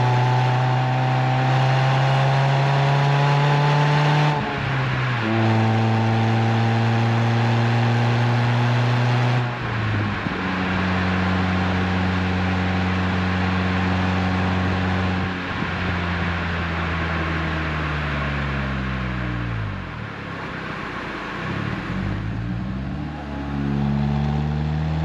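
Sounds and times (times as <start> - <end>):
car engine at low revs: 0.0 - 25.0.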